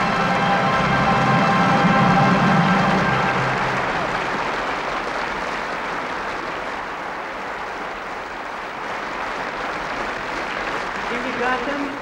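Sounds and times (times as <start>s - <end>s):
stadium crowd applauding: 0.0s - 12.0s.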